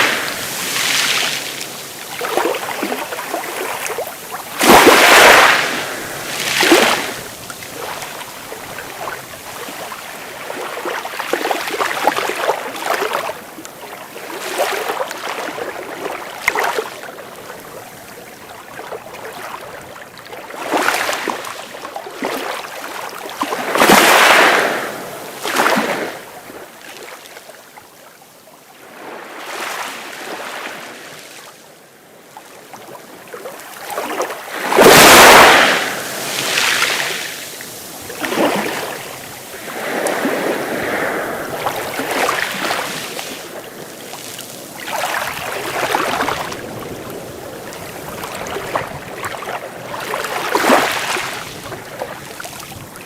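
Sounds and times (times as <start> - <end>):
sea waves breaking: 0.0 - 27.1, 32.8 - 53.0.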